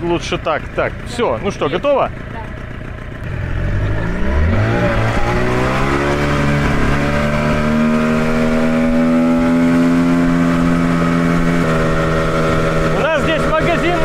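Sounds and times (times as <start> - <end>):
outboard motor speeding up: 0.0 - 14.0.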